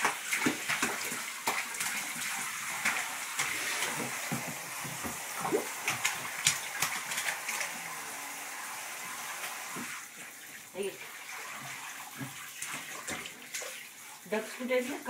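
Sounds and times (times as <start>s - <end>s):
hands splashing bath water: 0.0s - 8.4s, 9.4s - 15.0s.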